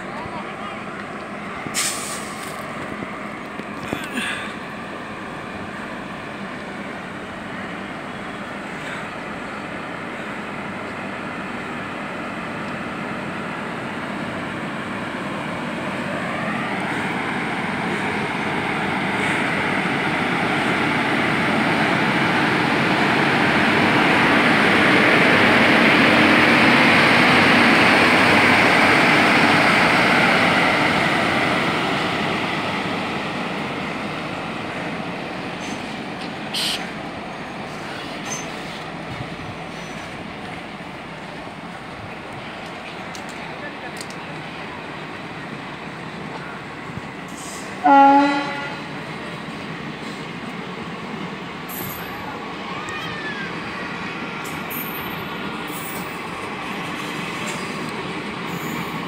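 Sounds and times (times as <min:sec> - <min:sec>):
train rolling past on rails: 0:00.0 - 0:59.0.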